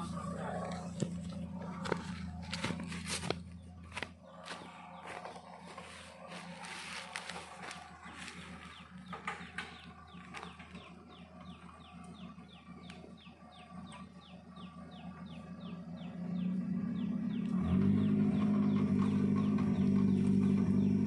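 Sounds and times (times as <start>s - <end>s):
engine idling hum: 0.0s - 21.0s.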